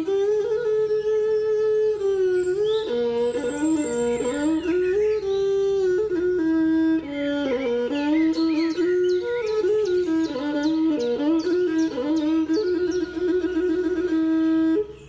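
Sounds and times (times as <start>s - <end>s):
reedy wind instrument melody: 0.0s - 15.0s.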